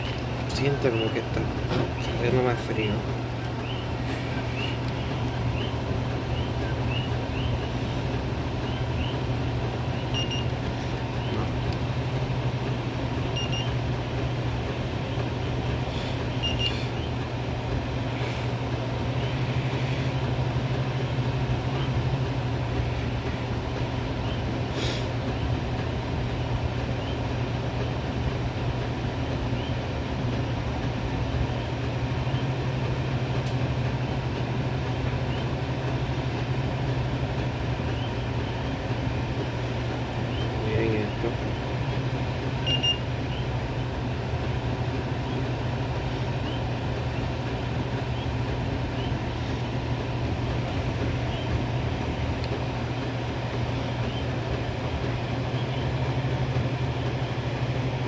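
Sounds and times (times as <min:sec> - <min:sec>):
fan motor humming: 0:00.0 - 0:58.0.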